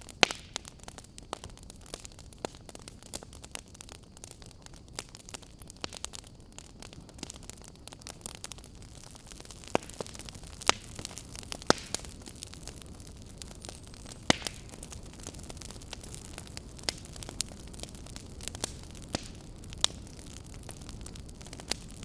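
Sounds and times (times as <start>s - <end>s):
campfire wood crackling: 0.0s - 22.0s.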